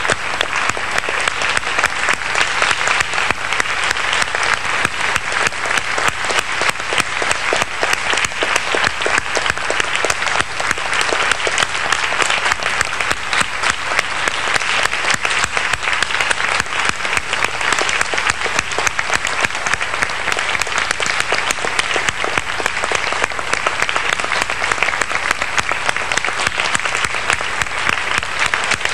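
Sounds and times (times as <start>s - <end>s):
audience applauding: 0.0s - 28.9s.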